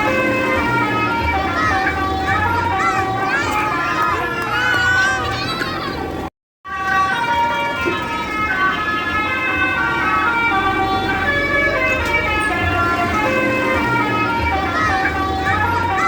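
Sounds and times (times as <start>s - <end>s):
multi-tone bus horn tune: 0.0s - 5.4s, 6.0s - 16.0s.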